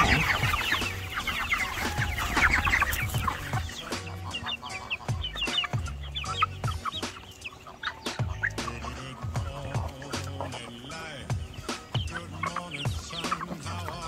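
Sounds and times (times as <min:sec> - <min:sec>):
chickens clucking and peeping: 0:00.0 - 0:14.0.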